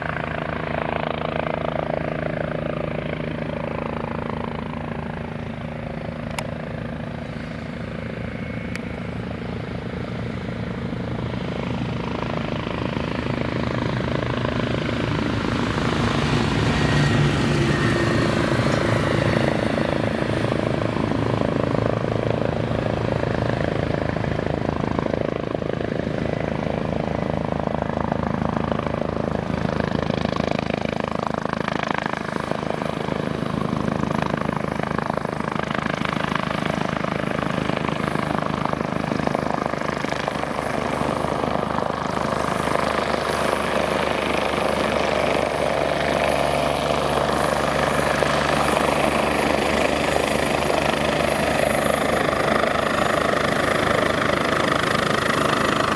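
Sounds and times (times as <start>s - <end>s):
helicopter rotor beating: 0.0s - 55.9s
high turbine whine: 0.0s - 55.9s.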